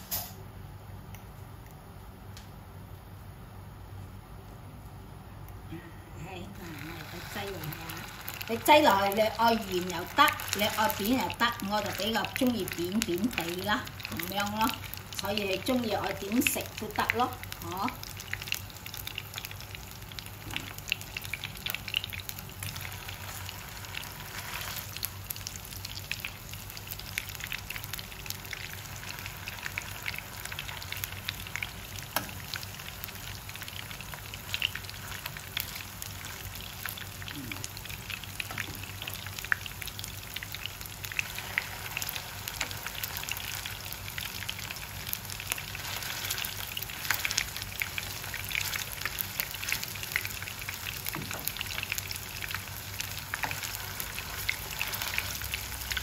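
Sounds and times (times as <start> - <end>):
frying oil sizzling and popping: 6.2 - 56.0.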